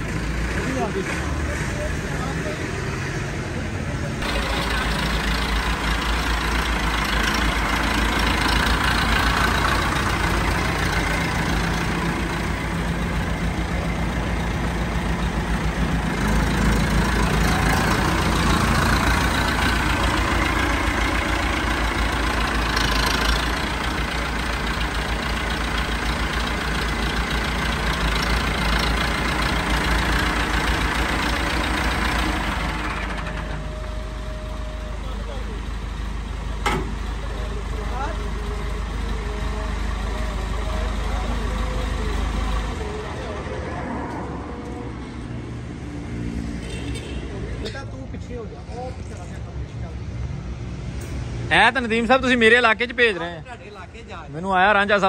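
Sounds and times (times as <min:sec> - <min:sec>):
tractor diesel engine running: 0:00.0 - 0:45.8.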